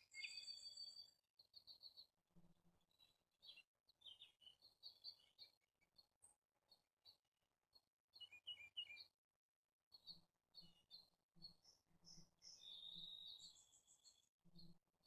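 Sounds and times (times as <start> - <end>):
faint birdsong chirps and trills: 0.0 - 9.2, 9.9 - 15.0.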